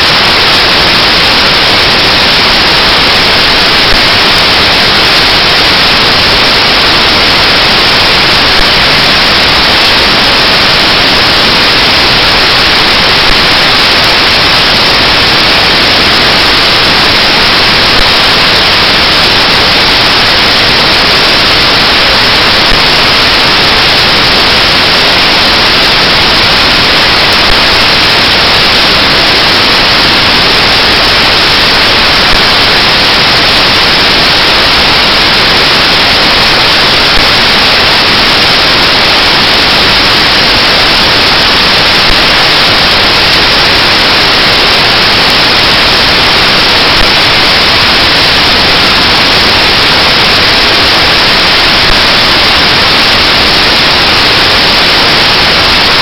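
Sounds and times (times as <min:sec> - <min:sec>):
static hiss: 0:00.0 - 0:56.0.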